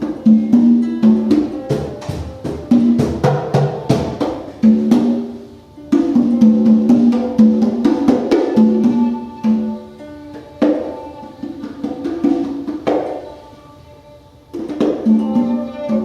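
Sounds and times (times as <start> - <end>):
hand drum strikes: 0.0 - 13.4, 14.5 - 16.0.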